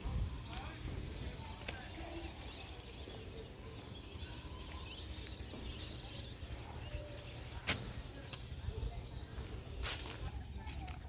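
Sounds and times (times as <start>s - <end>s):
distant bird calls: 0.0s - 9.8s.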